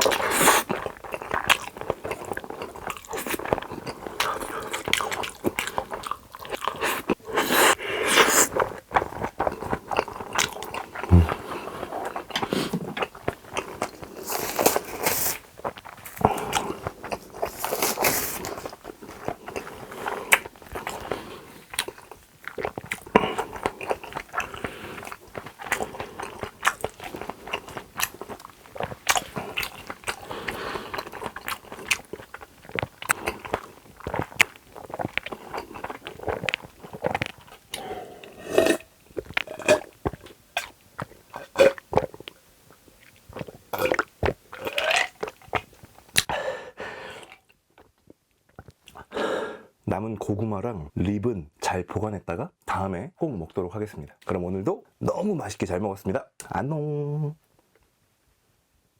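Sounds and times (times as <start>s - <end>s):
person chewing crunchy food: 0.0s - 49.2s.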